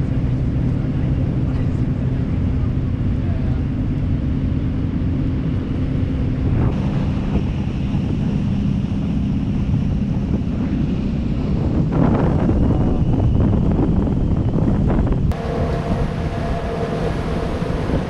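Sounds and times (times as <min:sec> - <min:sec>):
boat engine hum: 0:00.0 - 0:18.0
wind buffeting microphone: 0:00.0 - 0:18.0.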